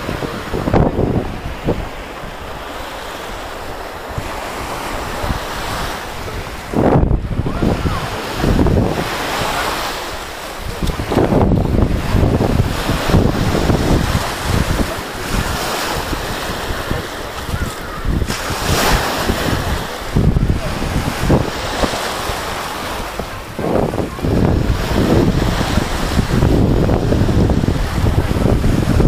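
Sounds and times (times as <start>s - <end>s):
small waves washing on sand: 0.0s - 29.0s
wind buffeting microphone: 0.0s - 29.0s.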